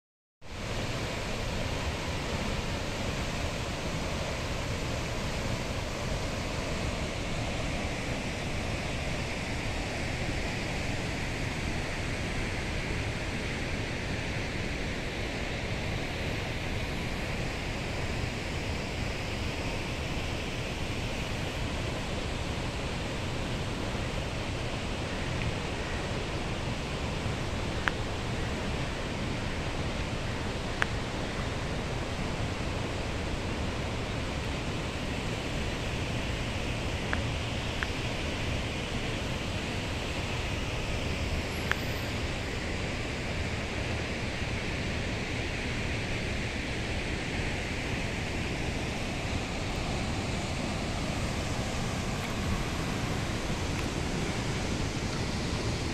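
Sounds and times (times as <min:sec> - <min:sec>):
small waterfall: 0:00.4 - 0:55.9
river water rushing: 0:00.5 - 0:55.9.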